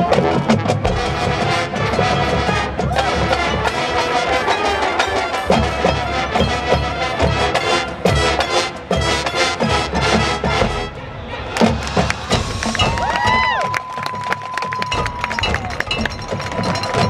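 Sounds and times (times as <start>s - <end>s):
marching band playing: 0.0s - 17.0s
marching drums: 0.0s - 17.0s.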